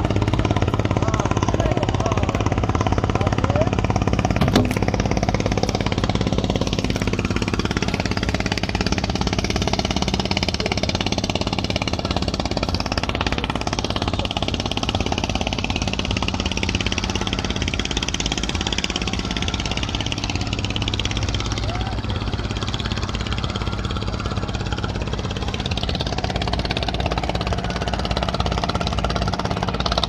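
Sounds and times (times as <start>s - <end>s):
engine knocking: 0.0s - 30.0s.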